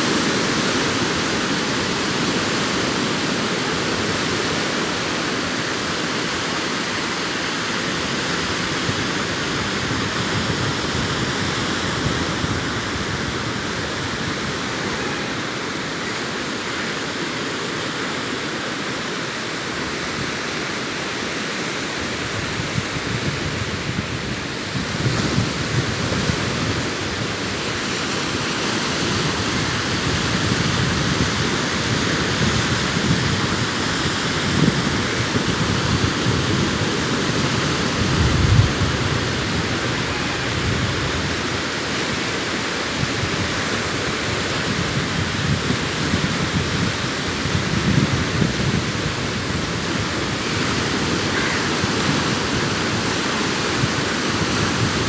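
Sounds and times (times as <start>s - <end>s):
sea waves washing up beach: 0.0s - 55.0s.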